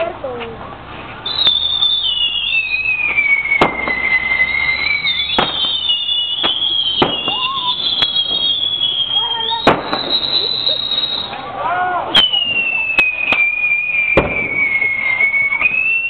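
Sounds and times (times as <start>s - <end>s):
whistling fireworks screeching: 0.8s - 16.0s
firecracker bangs: 0.9s - 16.0s.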